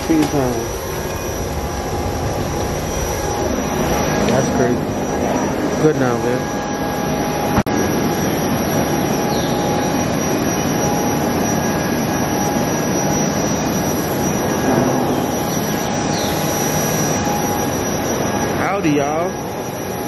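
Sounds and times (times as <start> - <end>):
high steady whine: 0.0 - 20.0
jet engine roar: 0.0 - 20.0.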